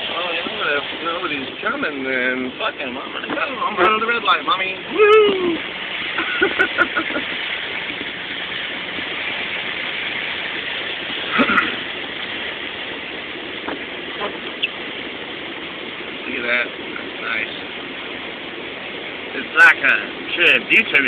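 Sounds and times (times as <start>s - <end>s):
floodwater rushing from tyres: 0.0s - 21.0s.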